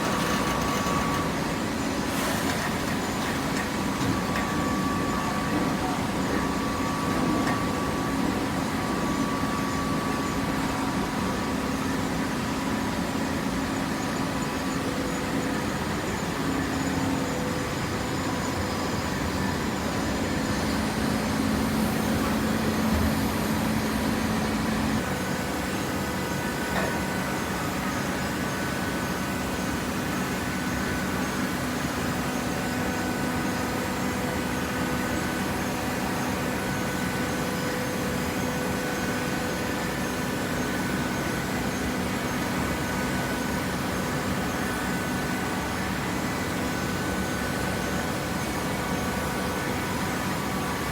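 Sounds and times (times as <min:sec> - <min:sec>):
machinery humming: 0:00.0 - 0:50.9.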